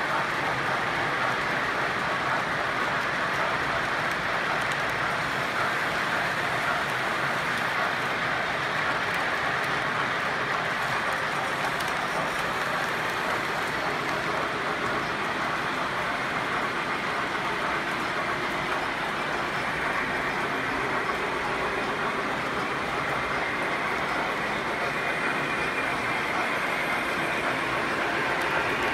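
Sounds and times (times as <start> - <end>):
model train wheels on rails: 0.0 - 28.9.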